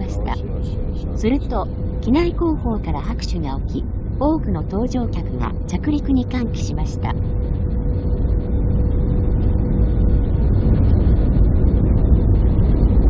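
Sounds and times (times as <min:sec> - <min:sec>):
constant hum: 0:00.0 - 0:13.0
jet engines rumbling: 0:00.0 - 0:13.0.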